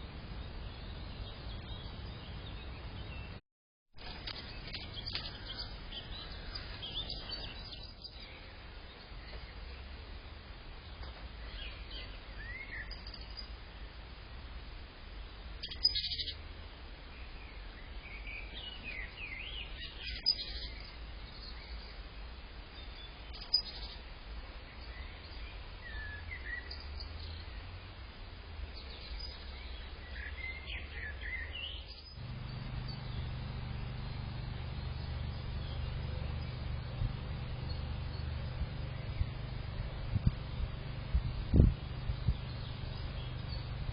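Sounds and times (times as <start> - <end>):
small birds chirping: 4.0 - 10.0, 10.8 - 13.6, 15.2 - 16.4, 17.1 - 43.9
steady low hum: 4.0 - 43.9.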